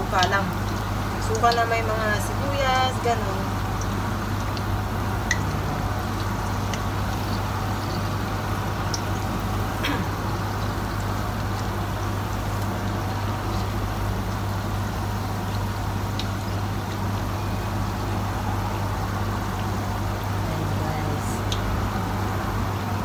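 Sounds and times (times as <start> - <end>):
oil sizzling with pops: 0.0 - 20.4, 21.3 - 22.9
low hum: 2.1 - 23.0.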